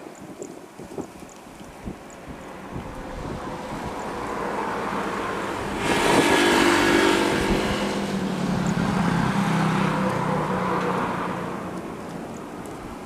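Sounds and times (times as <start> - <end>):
jet engines on takeoff roll: 1.6 - 13.0.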